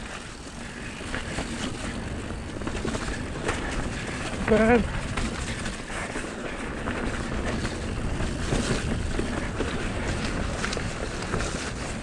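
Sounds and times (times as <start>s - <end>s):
bike clicks and rattles: 0.0s - 12.0s
tyres rolling on dirt: 0.0s - 12.0s
wind rushing over microphone: 0.0s - 12.0s.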